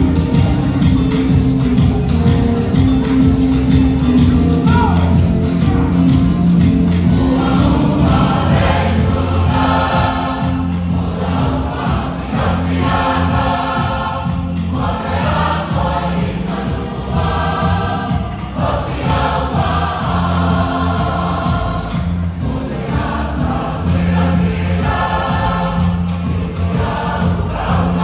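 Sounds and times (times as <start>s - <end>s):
choir singing a hymn: 0.0s - 28.0s
instrumental accompaniment: 0.0s - 28.0s.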